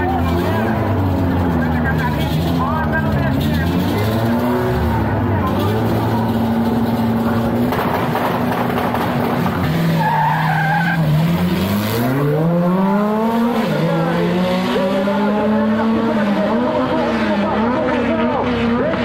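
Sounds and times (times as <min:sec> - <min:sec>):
drag racing car accelerating: 0:00.0 - 0:19.0.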